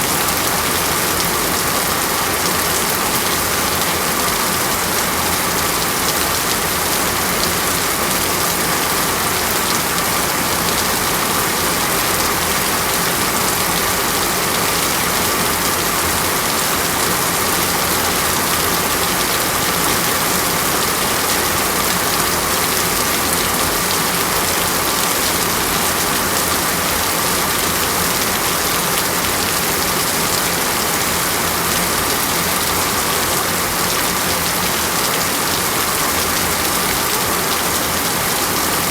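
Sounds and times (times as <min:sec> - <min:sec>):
dense water hiss and patter: 0:00.0 - 0:38.9.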